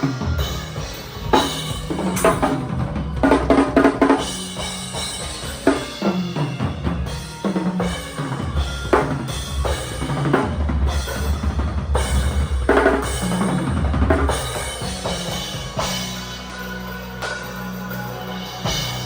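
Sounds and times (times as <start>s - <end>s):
drum kit playing: 0.0s - 19.0s.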